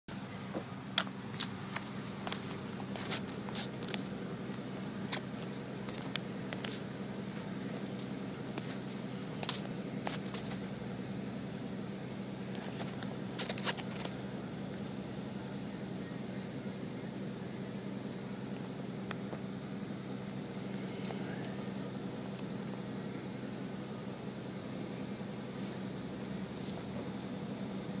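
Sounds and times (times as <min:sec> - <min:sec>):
excavator diesel engine hum: 0:00.1 - 0:28.0.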